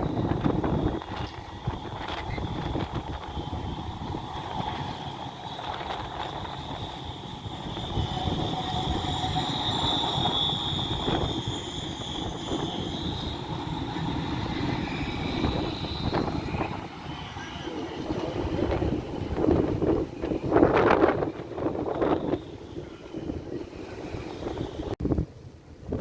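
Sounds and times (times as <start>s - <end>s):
high-pitched whine: 0.0s - 24.9s
tram passing: 0.0s - 25.0s.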